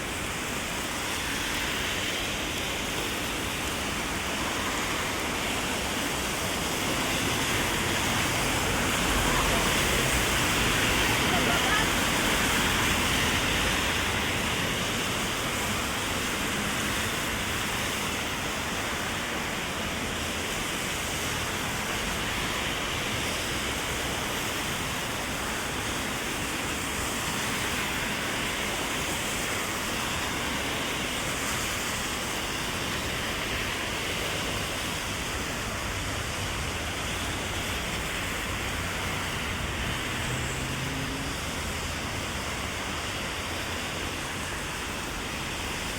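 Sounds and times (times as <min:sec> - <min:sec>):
heavy rain on umbrella and street: 0:00.0 - 0:45.9.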